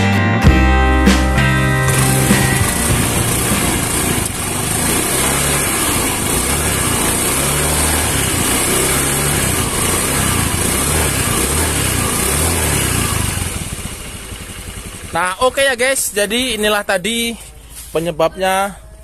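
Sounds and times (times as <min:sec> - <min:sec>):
scooter engine running: 0:01.0 - 0:17.9.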